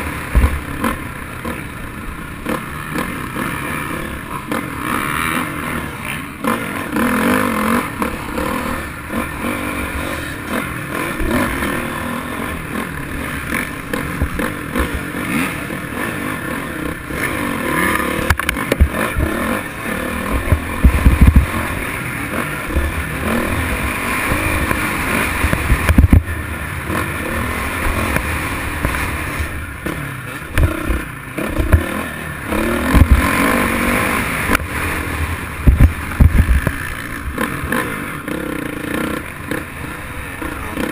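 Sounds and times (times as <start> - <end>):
dirt bike riding: 0.0 - 40.9.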